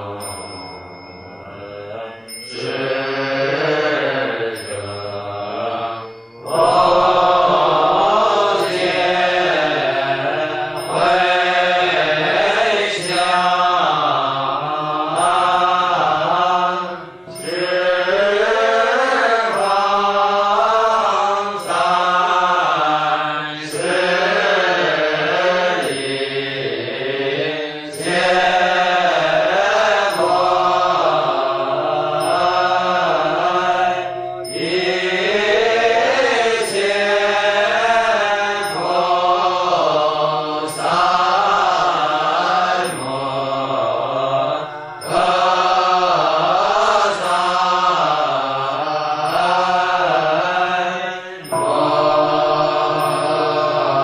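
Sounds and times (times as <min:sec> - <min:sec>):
group of voices chanting: 0:01.4 - 0:54.0.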